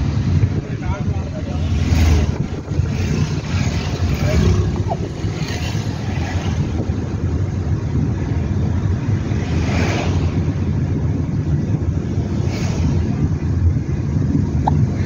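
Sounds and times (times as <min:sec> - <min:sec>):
passing van whoosh: 0:00.0 - 0:15.0
road and engine noise inside car: 0:00.0 - 0:15.0.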